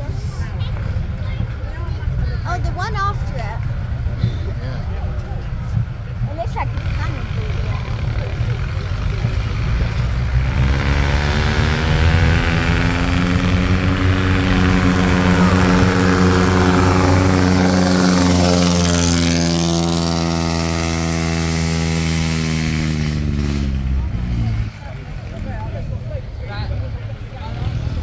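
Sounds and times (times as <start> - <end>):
car engine climbing a hill: 3.7 - 28.0.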